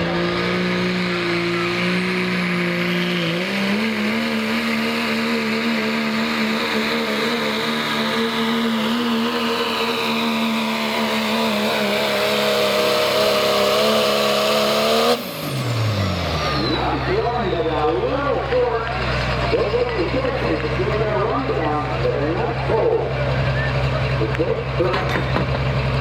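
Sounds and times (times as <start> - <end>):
diesel pickup engine at full power: 0.0 - 26.0.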